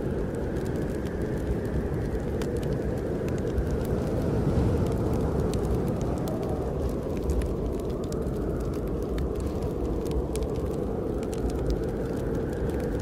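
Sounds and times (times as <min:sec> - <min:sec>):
low snowstorm wind: 0:00.0 - 0:13.0
wood fire crackling: 0:00.0 - 0:13.0.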